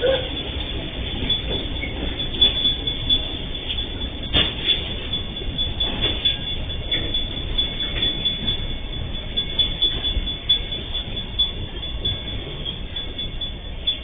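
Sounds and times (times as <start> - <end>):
freight train wagons rumbling past: 0.0 - 14.0
wheels knocking on track: 0.0 - 14.0.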